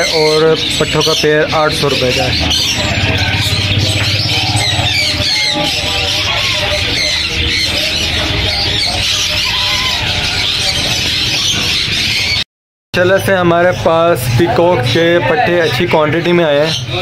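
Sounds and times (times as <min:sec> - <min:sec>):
small birds chirping: 0:00.0 - 0:12.4, 0:13.0 - 0:17.0.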